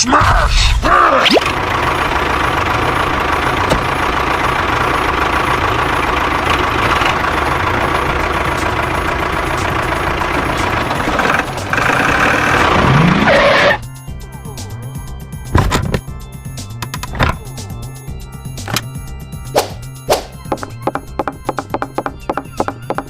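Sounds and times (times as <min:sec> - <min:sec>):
truck engine running: 0:01.4 - 0:23.0.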